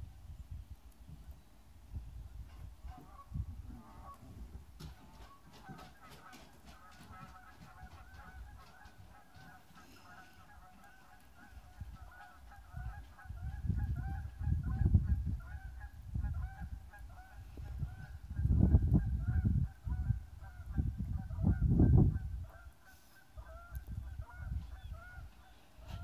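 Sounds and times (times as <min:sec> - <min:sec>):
geese honking: 0:02.8 - 0:04.2, 0:04.8 - 0:26.0.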